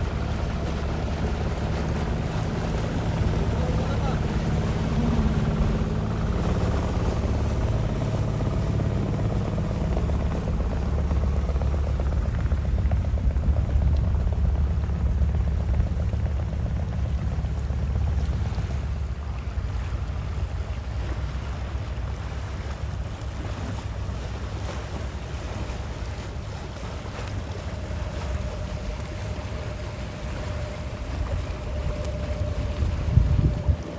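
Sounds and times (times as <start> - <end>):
boat diesel engine rumbling: 0.0 - 33.9.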